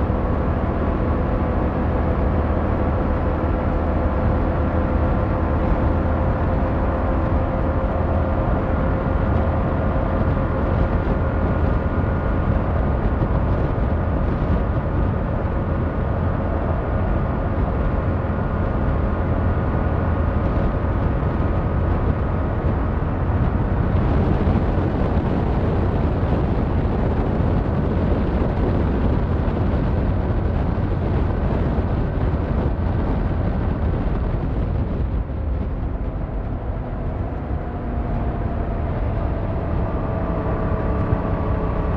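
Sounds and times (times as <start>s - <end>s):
wind noise: 0.0s - 41.9s.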